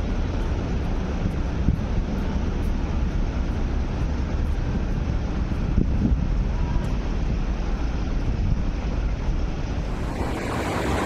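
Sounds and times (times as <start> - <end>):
outdoor low rumble and hiss: 0.0 - 11.0
wind on microphone: 0.0 - 11.0.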